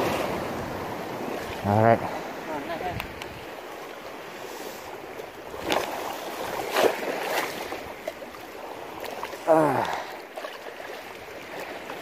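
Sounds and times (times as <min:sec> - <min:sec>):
seawater sloshing over reef: 0:00.0 - 0:12.0
water splashes: 0:00.0 - 0:12.0.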